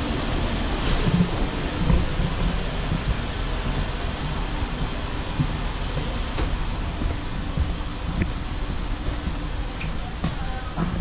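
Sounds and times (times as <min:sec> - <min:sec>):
steady rushing noise: 0:00.0 - 0:11.0
low thumps from footsteps: 0:01.0 - 0:11.0.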